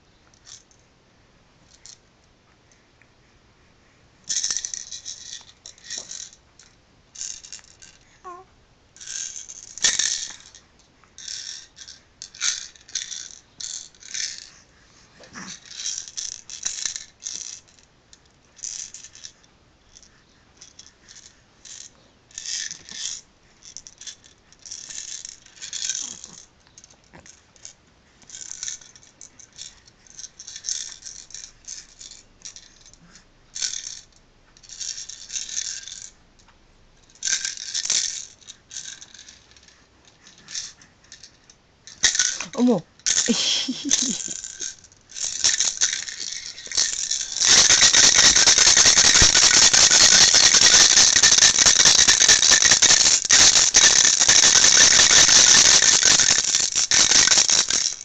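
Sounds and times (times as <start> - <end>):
toy maraca rattling: 0.4 - 0.8, 1.7 - 2.0, 4.3 - 14.6, 15.4 - 36.2, 37.0 - 58.0.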